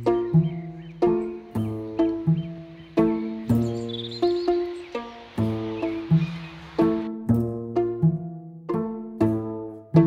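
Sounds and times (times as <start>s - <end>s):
plucked notes music: 0.0s - 10.0s.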